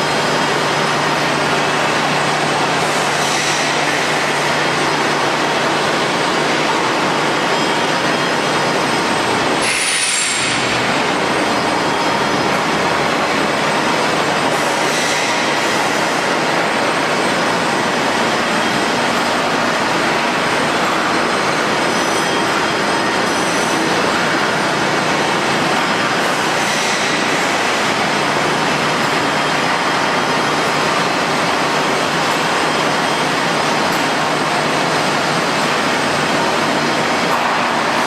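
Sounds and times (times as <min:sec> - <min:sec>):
industrial rolling machinery: 0:00.0 - 0:38.0.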